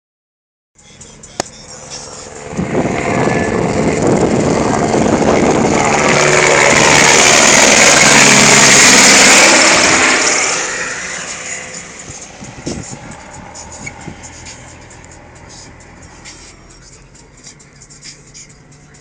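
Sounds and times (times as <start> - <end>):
helicopter passing overhead: 0.9 - 19.0.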